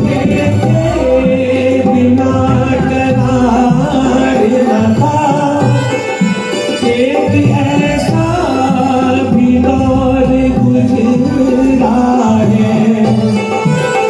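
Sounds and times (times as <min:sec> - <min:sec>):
instrumental accompaniment: 0:00.0 - 0:14.0
person singing: 0:00.0 - 0:14.0.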